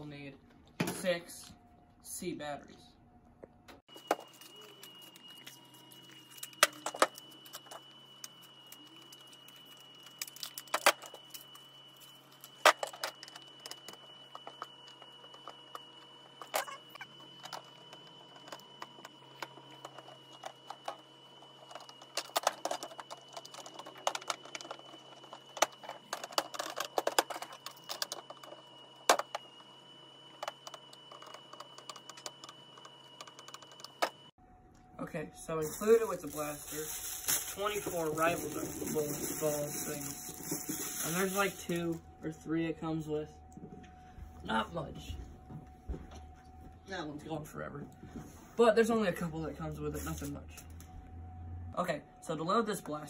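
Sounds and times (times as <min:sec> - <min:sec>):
faint steady high tone: 0:03.8 - 0:53.0.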